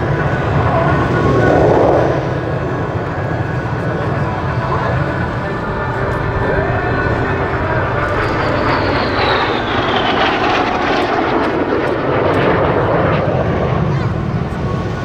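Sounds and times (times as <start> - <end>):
jet aircraft flying past: 0.0 - 15.0.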